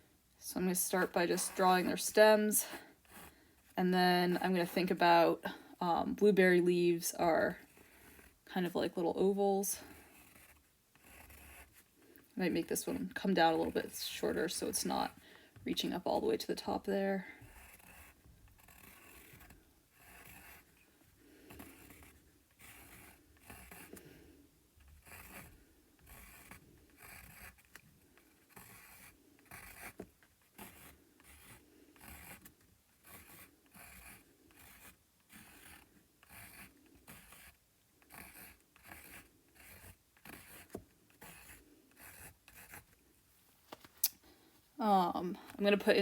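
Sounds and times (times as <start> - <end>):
pencil sketching on paper: 0.6 - 43.0.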